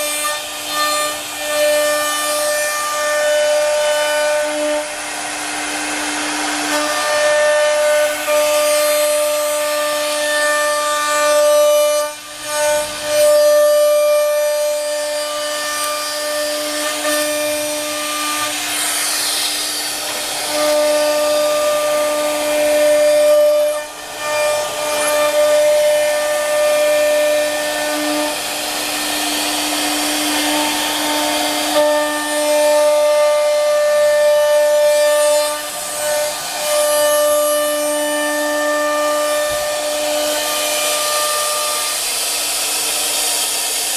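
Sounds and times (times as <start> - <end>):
router bit rasping through wood: 0.0 - 43.9
stepper motor tones: 0.0 - 43.9.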